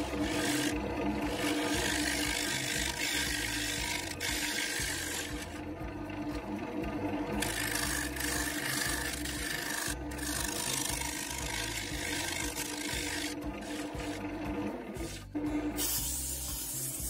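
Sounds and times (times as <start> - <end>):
lathe motor hum: 0.0 - 16.0
gouge scraping spinning wood: 0.0 - 17.0.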